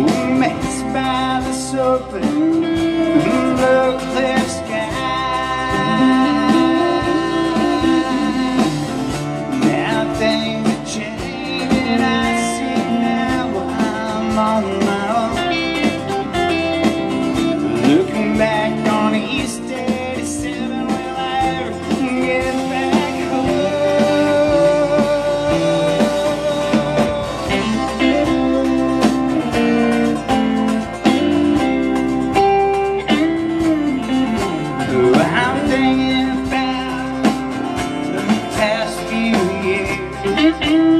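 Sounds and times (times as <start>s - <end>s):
acoustic guitar: 0.0s - 40.9s
drums: 0.0s - 40.9s
electric bass: 0.0s - 40.9s
electric guitar: 0.0s - 40.9s.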